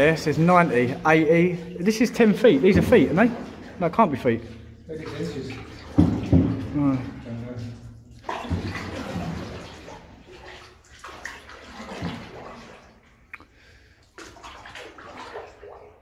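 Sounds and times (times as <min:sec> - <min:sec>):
paddle strokes splashing in water: 0:00.0 - 0:13.3, 0:14.0 - 0:16.0.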